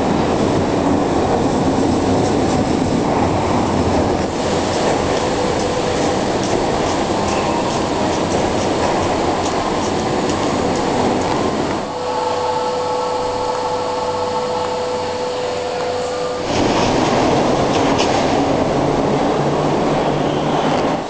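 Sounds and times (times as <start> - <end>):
steady humming tone: 0.0 - 20.4
train wheels rumbling on rail: 0.0 - 21.0.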